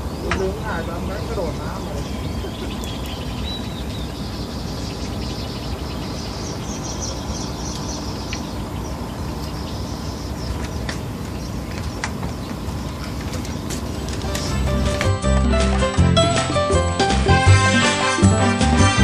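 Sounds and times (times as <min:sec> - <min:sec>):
bird chirping: 0:00.0 - 0:16.4
low outdoor rumble: 0:00.0 - 0:17.4.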